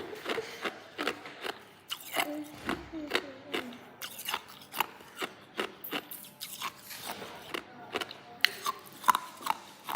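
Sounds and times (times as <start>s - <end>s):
ice being chewed: 0.0s - 2.4s, 3.1s - 9.9s.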